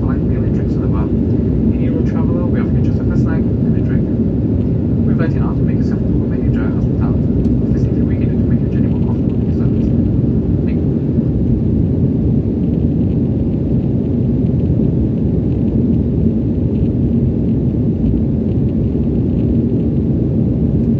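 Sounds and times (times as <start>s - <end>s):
airliner cabin rumble: 0.0s - 20.9s
faint steady hum: 0.0s - 20.9s.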